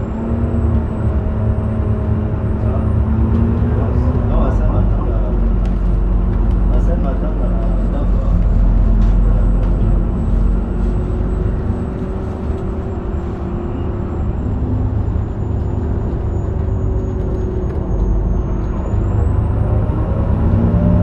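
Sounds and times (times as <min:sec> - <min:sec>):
bus diesel engine rumbling: 0:00.0 - 0:21.0.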